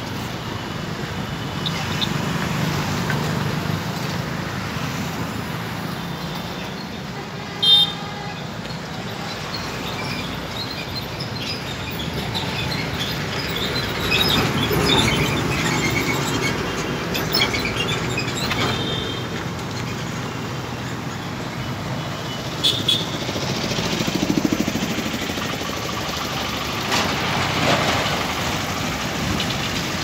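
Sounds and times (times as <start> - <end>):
passing vehicles: 0.0 - 30.0.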